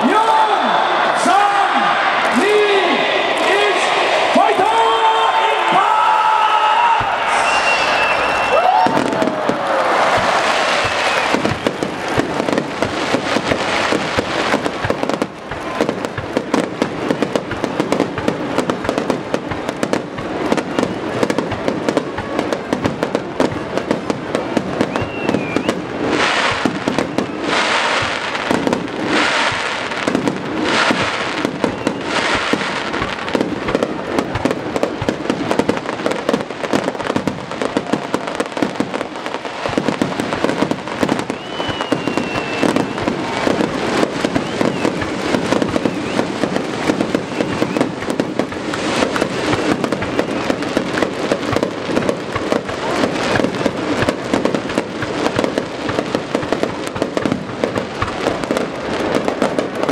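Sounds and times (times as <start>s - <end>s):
fireworks bursting with sharp bangs: 0.0s - 59.9s
hissing crackle of fireworks: 0.0s - 59.9s.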